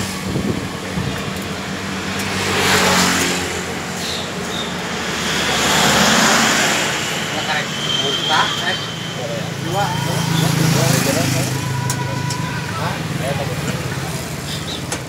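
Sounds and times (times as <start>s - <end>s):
box truck passing close: 0.0s - 15.0s
engine running steadily: 0.0s - 15.0s
vehicles driving past: 0.0s - 15.0s.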